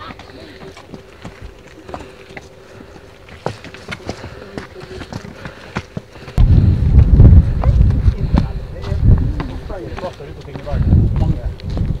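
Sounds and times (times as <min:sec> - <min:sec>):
footsteps on rocky gravel: 0:00.0 - 0:06.4, 0:07.0 - 0:12.0.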